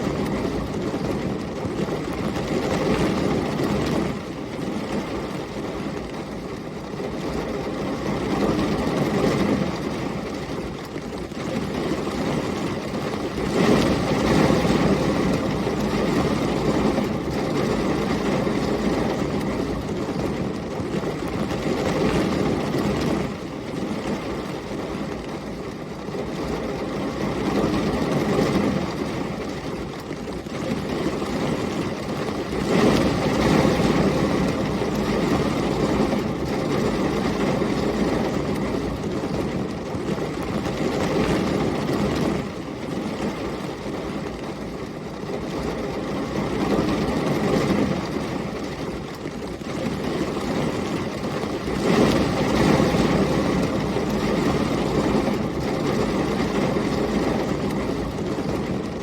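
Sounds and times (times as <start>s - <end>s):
heavy rain: 0.0s - 59.0s
storm wind rumbling: 0.0s - 59.0s.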